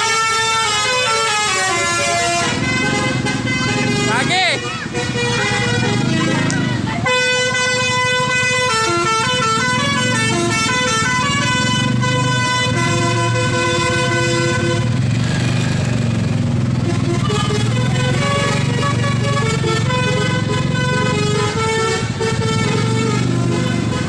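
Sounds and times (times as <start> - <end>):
engine hum: 0.0 - 24.0
multi-tone bus horn melody: 0.0 - 24.0.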